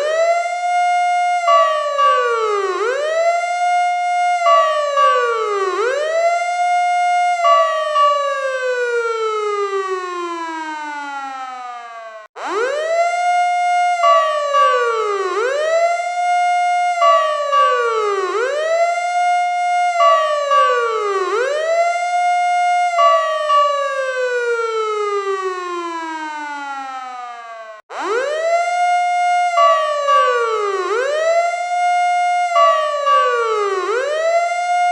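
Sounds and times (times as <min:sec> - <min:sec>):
fire truck siren wailing: 0:00.0 - 0:34.9.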